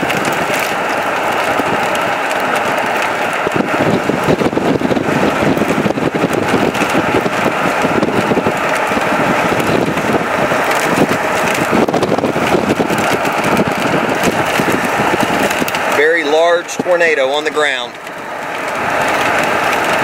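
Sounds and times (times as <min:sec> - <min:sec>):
car road noise: 0:00.0 - 0:20.0
wind buffeting microphone: 0:00.0 - 0:20.0.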